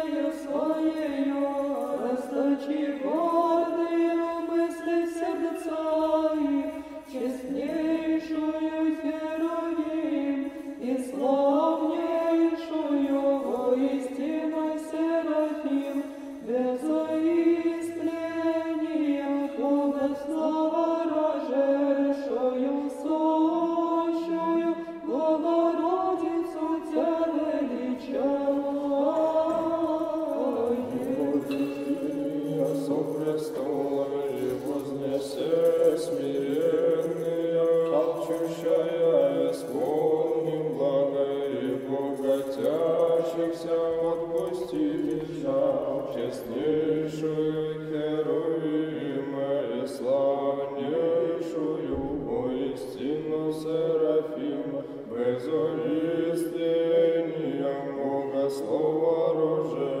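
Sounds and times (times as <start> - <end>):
voices chanting a hymn: 0.0 - 60.0.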